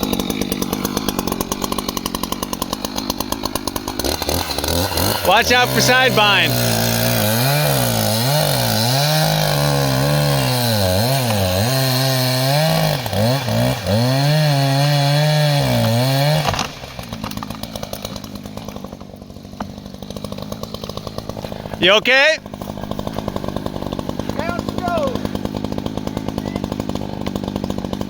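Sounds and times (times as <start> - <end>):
chainsaw cutting log: 0.0 - 28.0.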